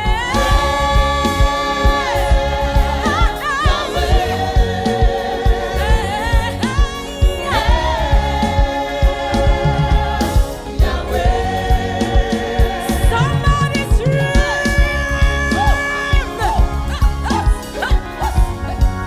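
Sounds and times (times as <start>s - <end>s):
person singing: 0.0s - 18.9s
choir singing: 0.0s - 19.0s
steady drum beat: 0.0s - 19.0s.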